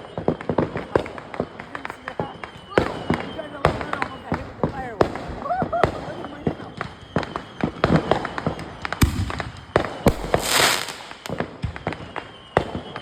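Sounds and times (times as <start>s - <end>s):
firework hissing: 0.0s - 12.0s
fireworks popping and banging: 0.0s - 13.0s.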